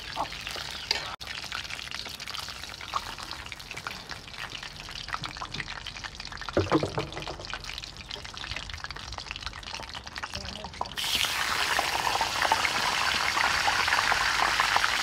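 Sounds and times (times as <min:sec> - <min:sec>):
hot oil crackling and sizzling: 0:00.0 - 0:15.0.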